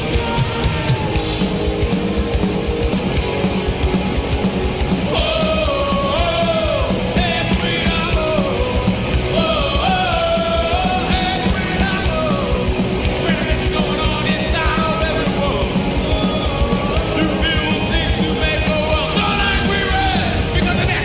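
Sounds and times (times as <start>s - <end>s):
punk rock music: 0.0s - 21.0s.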